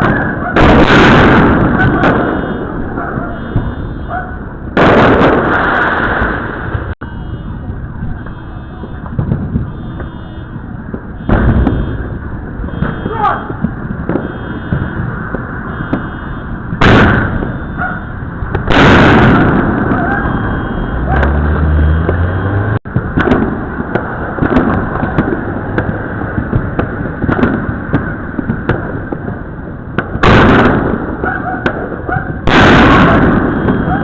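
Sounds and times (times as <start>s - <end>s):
fireworks crackling: 0.0s - 34.0s
loud firework booms: 0.0s - 34.0s.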